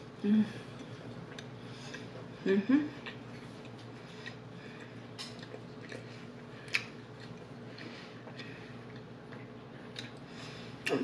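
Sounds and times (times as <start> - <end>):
mouth chewing food: 0.6 - 11.0.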